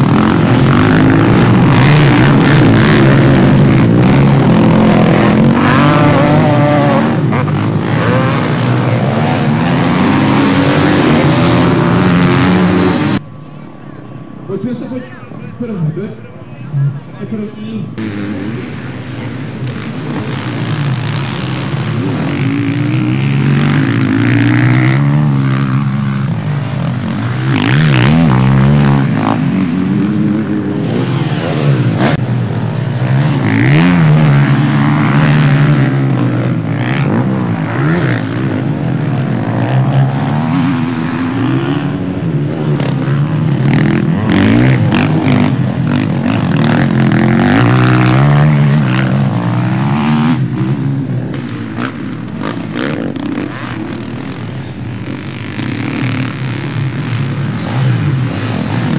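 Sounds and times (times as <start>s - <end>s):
motocross motorcycles revving: 0.0s - 13.6s, 14.4s - 58.9s.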